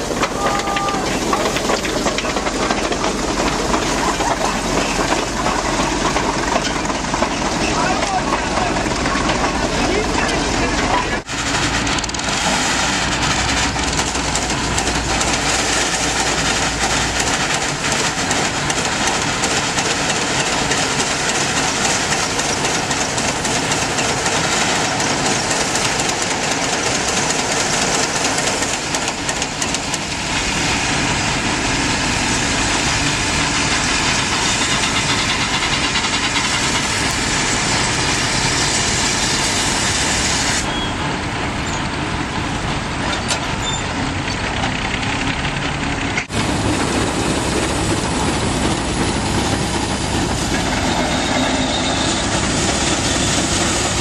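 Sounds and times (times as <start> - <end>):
machinery running: 0.0 - 54.0.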